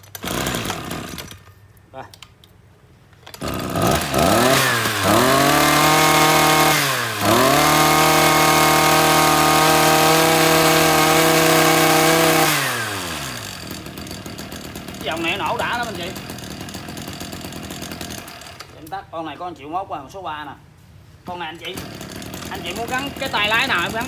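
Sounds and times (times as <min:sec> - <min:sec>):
brush cutter engine revving: 0:00.0 - 0:01.5, 0:03.3 - 0:19.0, 0:21.3 - 0:24.0.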